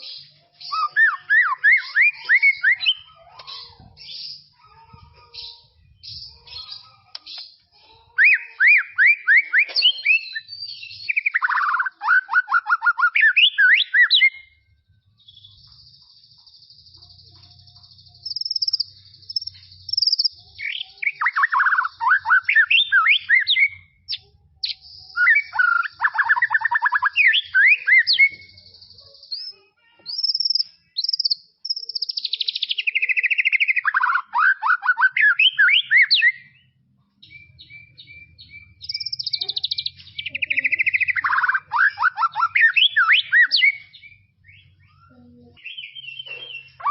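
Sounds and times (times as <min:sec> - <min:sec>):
bird singing sweeping phrases: 0:00.0 - 0:46.9.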